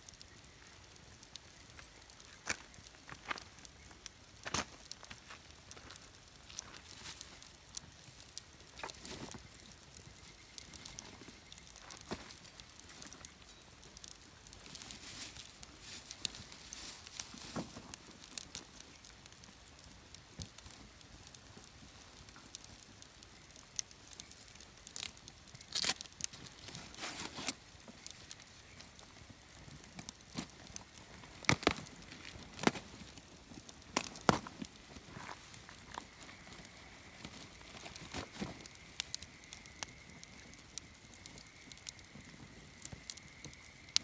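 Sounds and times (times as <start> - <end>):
campfire crackling: 0.0 - 44.0
sharp fire pops: 0.0 - 44.0.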